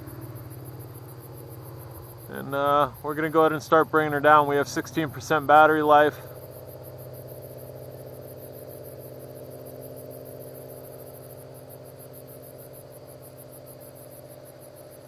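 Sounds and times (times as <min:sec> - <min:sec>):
crickets chirping: 0:00.0 - 0:15.0
low multi-tone hum: 0:00.0 - 0:15.0.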